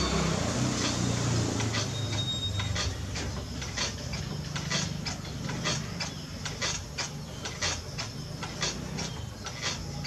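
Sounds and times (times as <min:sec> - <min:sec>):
potter's wheel humming: 0:00.0 - 0:10.0.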